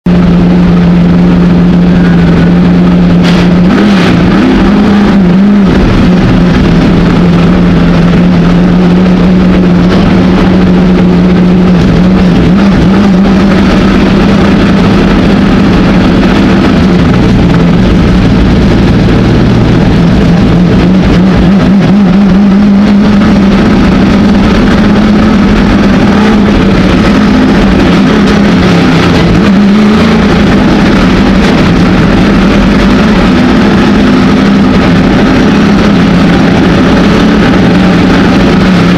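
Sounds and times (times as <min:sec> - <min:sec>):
race car engine roaring: 0:00.0 - 0:38.9.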